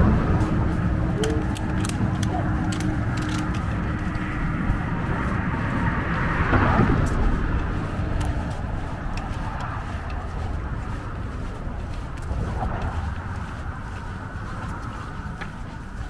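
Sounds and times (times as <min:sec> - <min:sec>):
road traffic passing: 0:00.0 - 0:16.0
steady low rumble: 0:00.0 - 0:16.0.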